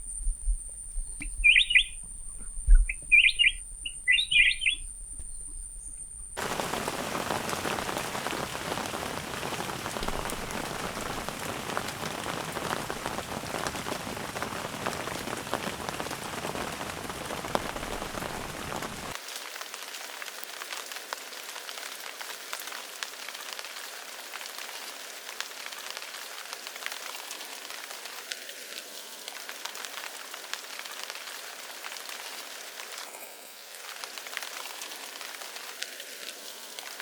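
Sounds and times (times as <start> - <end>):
rain falling: 1.4 - 2.0, 2.9 - 4.8, 6.2 - 37.0.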